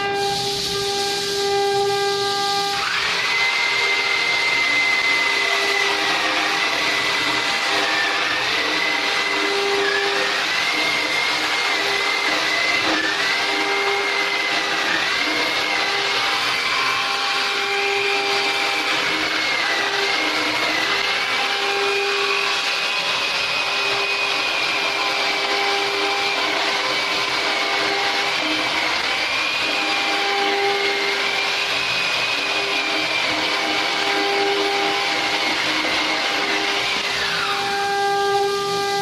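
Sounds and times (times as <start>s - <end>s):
high machine whine: 0.0s - 39.0s
sawmill machinery running: 0.0s - 39.0s.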